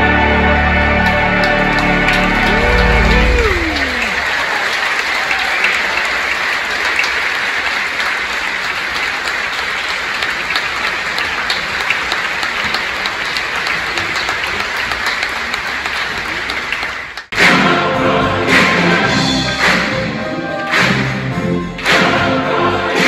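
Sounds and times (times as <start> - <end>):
large audience applauding: 0.8 - 17.7, 18.5 - 23.0.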